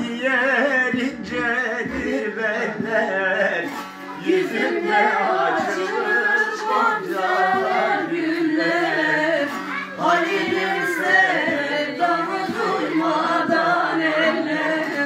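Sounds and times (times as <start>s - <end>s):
voices singing folk song: 0.0s - 15.0s.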